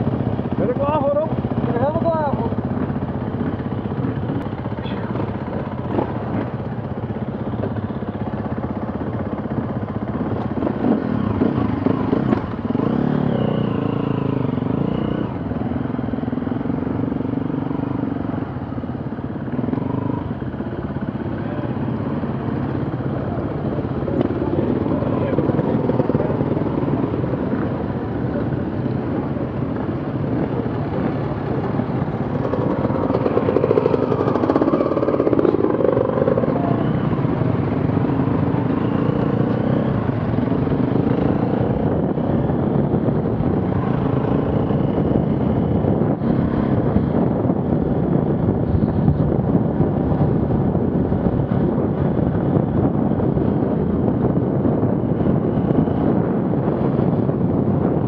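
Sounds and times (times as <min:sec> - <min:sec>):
off-road vehicle engines revving: 0:09.5 - 0:58.0.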